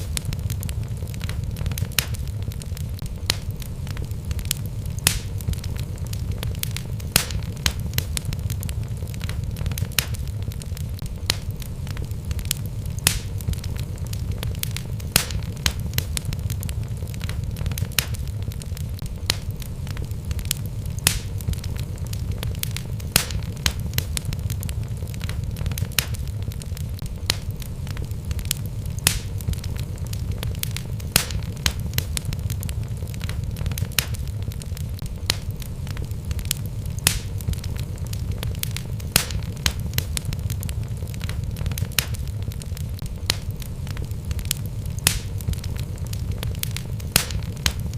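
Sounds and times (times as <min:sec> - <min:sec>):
logs crackling and popping: 0:00.0 - 0:47.9
low rumble of flames: 0:00.0 - 0:47.9.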